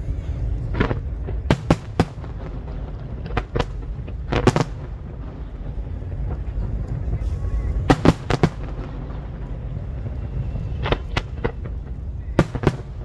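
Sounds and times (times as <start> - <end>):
fireworks bursting with sharp bangs: 0.0 - 13.0
steady low rumble: 0.0 - 13.0.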